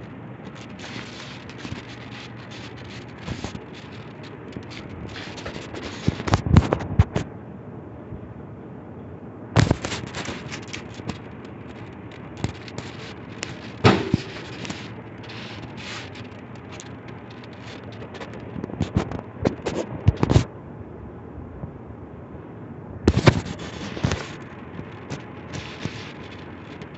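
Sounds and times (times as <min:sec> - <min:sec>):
sharp clicks and crackles: 0:00.0 - 0:07.3, 0:09.6 - 0:20.5, 0:23.1 - 0:26.9
ceiling fan whooshing: 0:00.0 - 0:26.9.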